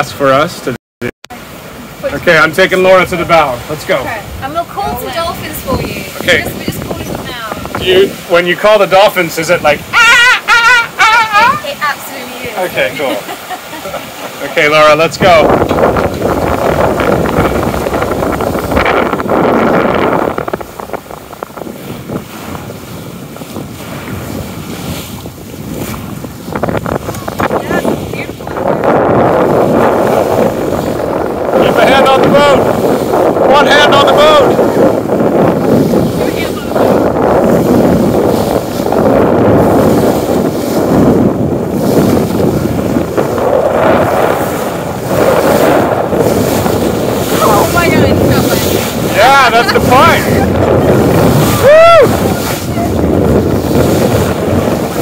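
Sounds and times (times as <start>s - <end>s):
sea water rushing along hull: 0.0s - 55.0s
wind buffeting microphone: 0.0s - 55.0s.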